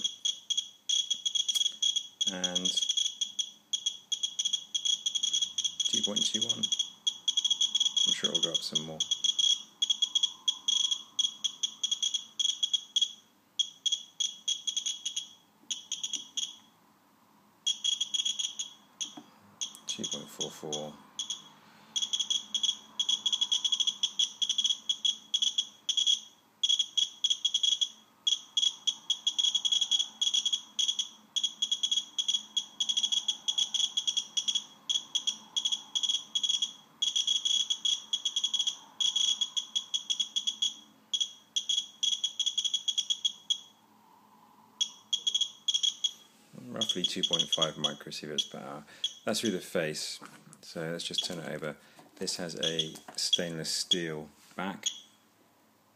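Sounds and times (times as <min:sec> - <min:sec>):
geiger counter clicking: 0:00.0 - 0:16.7, 0:17.7 - 0:43.7, 0:44.8 - 0:46.2, 0:46.8 - 0:49.5, 0:51.0 - 0:54.1, 0:54.8 - 0:55.0.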